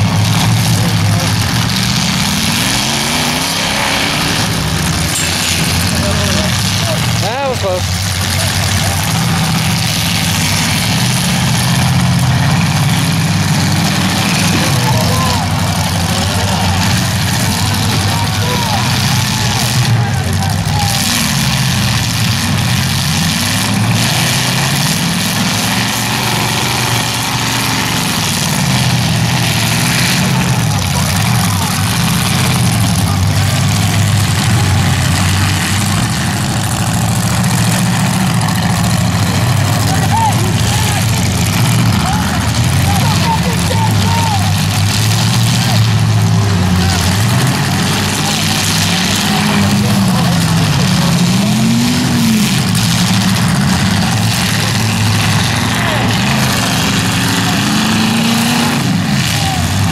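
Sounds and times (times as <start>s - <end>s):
car engines droning: 0.0s - 59.9s.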